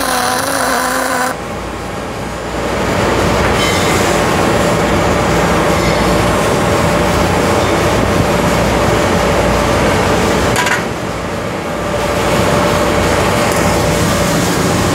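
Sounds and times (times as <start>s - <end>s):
large fan rushing hum: 0.0s - 14.9s.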